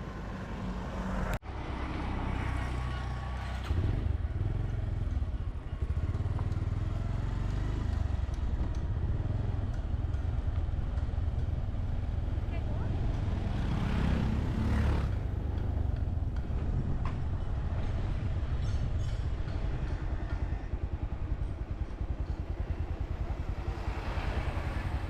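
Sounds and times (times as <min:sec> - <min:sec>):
motorcycle engine rumble: 0:02.4 - 0:25.0.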